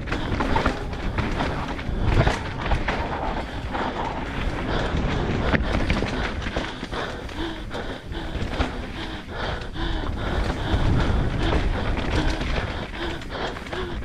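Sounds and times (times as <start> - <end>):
knocks of bike over rocks: 0.0 - 14.0
wind buffeting microphone: 0.0 - 14.0.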